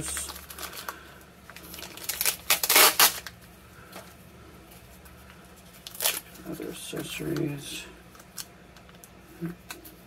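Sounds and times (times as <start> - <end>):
plastic bag and tape crinkling: 0.0 - 9.1.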